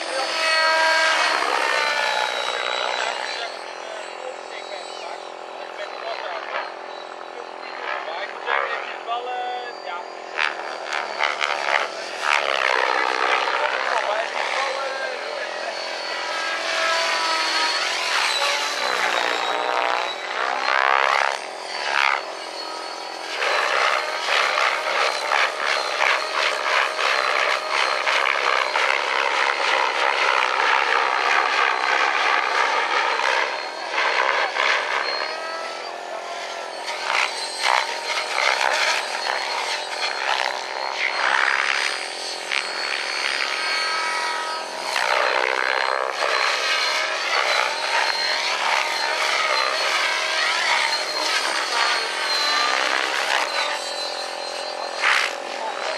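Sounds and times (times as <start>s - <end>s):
model helicopter motor and rotor: 0.0s - 55.9s.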